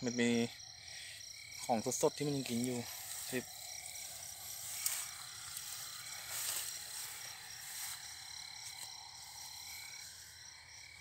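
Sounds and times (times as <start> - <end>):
insects and frogs trilling: 0.0 - 11.0
rustle of grass: 1.0 - 10.4.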